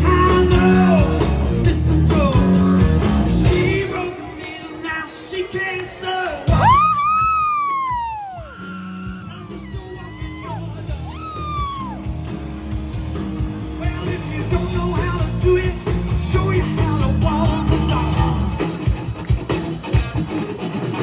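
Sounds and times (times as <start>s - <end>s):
live rock band playing: 0.0s - 5.4s, 6.4s - 21.0s.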